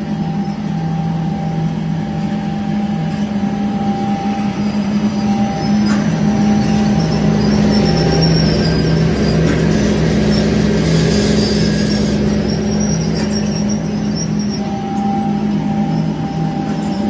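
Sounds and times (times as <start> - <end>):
conveyor machine running: 0.0 - 17.0
wavering low hum: 0.0 - 17.0.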